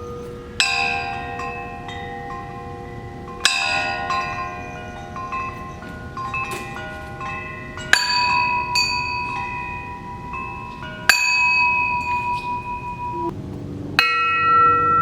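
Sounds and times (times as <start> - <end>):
bells ringing: 0.0 - 13.4, 14.0 - 15.0.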